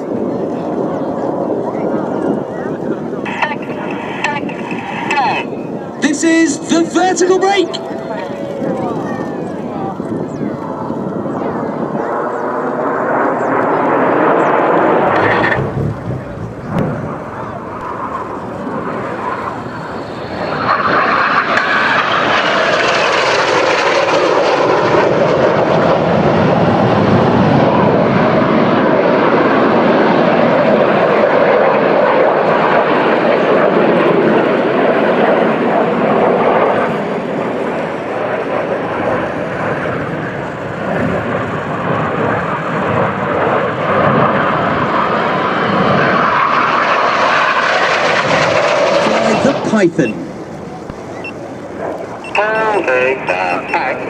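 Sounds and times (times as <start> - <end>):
jets roaring overhead: 0.0 - 54.0.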